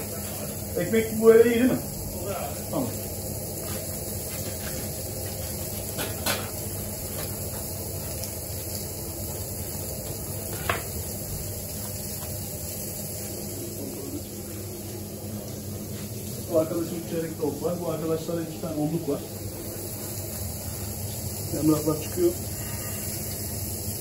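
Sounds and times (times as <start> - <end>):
kitchen background noise: 0.0 - 24.0.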